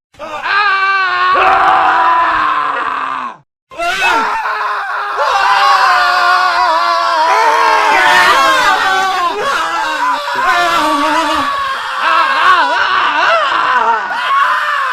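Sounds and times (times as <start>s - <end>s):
men screaming: 0.2s - 14.9s.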